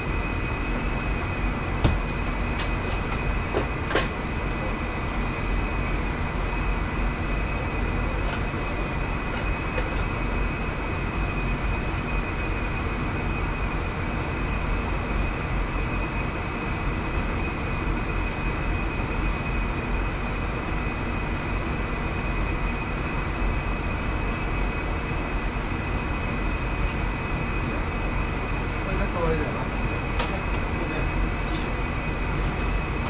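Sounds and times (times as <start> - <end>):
high-pitched whine: 0.0 - 33.0
kitchen machinery drone and hiss: 0.0 - 33.0.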